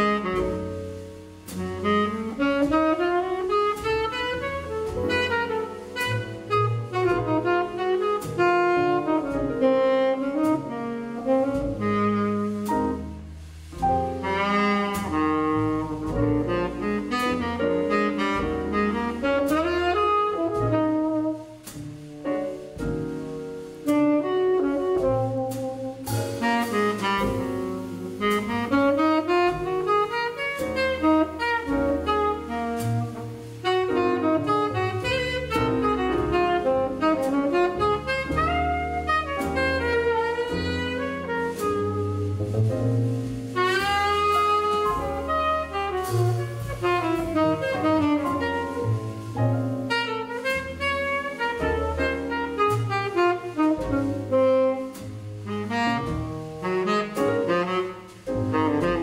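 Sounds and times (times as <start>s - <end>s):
tenor saxophone melody: 0.0s - 1.0s, 1.6s - 13.0s, 14.2s - 21.6s, 23.2s - 42.4s, 43.5s - 59.0s
drums: 0.0s - 59.0s
piano: 0.0s - 59.0s
plucked upright bass: 0.0s - 59.0s.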